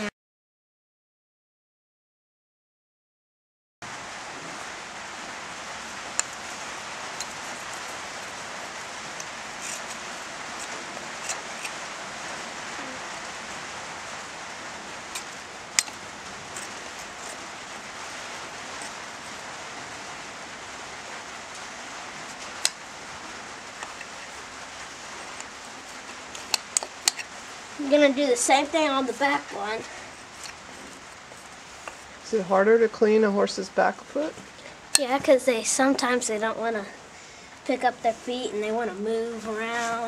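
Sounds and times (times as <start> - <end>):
rain on a roof: 3.8 - 40.0.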